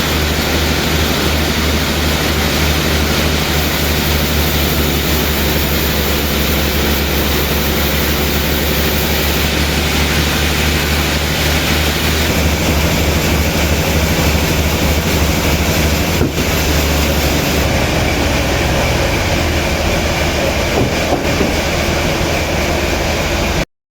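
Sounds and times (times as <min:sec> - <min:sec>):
sawmill machinery humming: 0:00.0 - 0:23.6.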